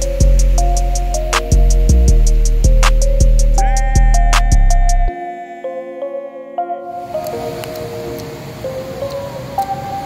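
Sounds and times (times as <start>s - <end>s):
background music of held notes: 0.0s - 10.0s.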